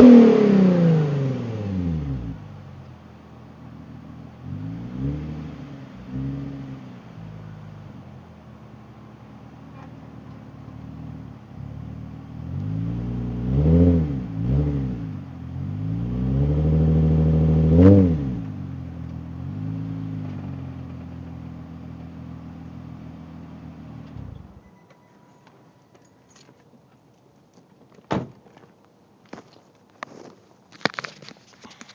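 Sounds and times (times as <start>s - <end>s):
car engine idling and revving: 0.0s - 26.1s.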